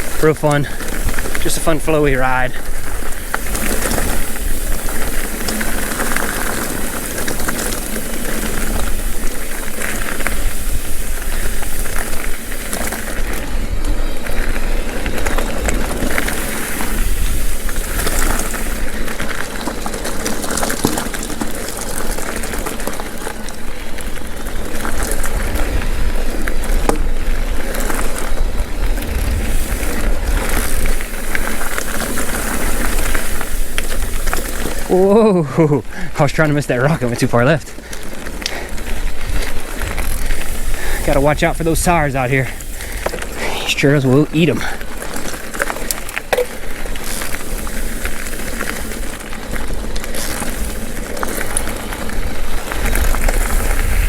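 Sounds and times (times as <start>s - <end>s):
wind rumbling on microphone: 0.0s - 22.9s, 23.5s - 35.0s, 35.8s - 54.0s
bike rattling over rocks: 0.0s - 54.0s
bike tyre noise on dirt: 0.0s - 54.0s.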